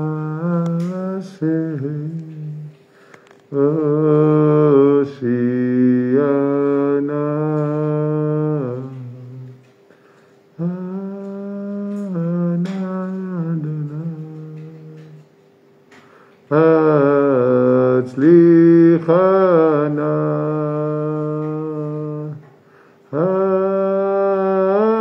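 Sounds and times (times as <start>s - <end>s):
man singing wordless melody: 0.0s - 2.9s, 3.5s - 9.7s, 10.6s - 15.3s, 16.5s - 25.0s.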